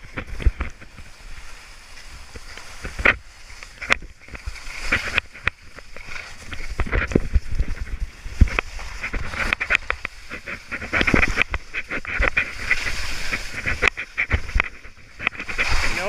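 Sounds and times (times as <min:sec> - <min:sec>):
skis scraping through slush: 0:00.0 - 0:16.0
wind rumble on microphone: 0:00.0 - 0:16.0.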